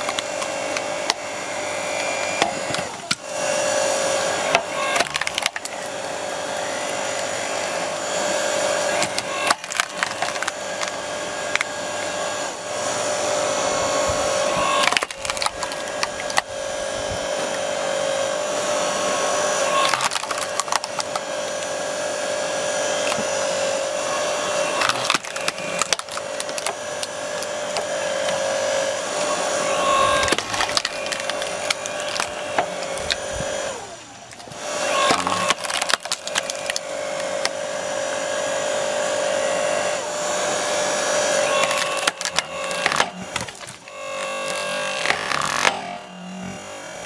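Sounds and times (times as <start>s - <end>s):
wood cracking and splitting: 0.0s - 12.4s, 13.0s - 17.8s, 19.4s - 22.2s, 22.8s - 38.0s, 41.2s - 47.0s
log splitter motor humming: 0.0s - 47.0s.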